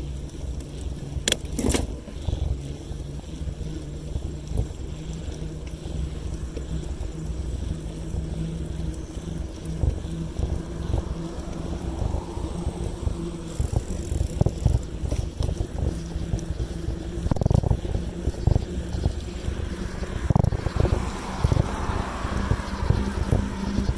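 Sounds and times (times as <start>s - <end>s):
low riding rumble: 0.0s - 23.9s
wind buffeting microphone: 0.0s - 23.9s.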